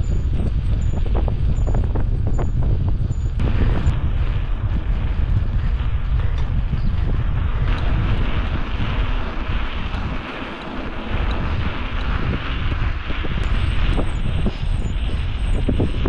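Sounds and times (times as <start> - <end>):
tyres rumbling on rough tarmac: 0.0 - 16.0
wind buffeting microphone: 0.0 - 16.0.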